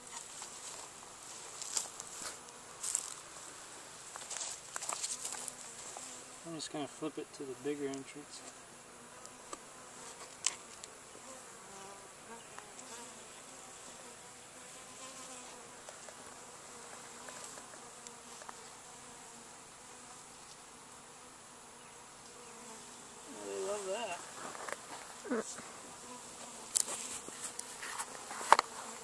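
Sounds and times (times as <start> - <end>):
bees buzzing: 0.0 - 29.0.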